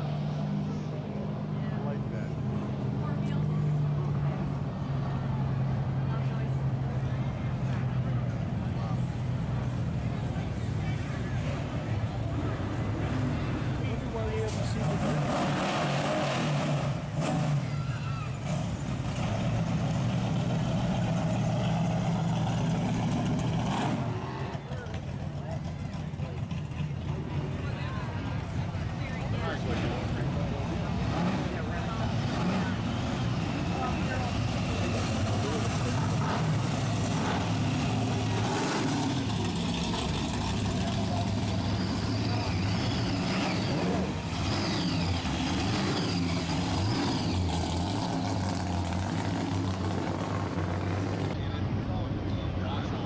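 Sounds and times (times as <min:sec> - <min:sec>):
drag car engine rumbling: 0:00.0 - 0:53.0.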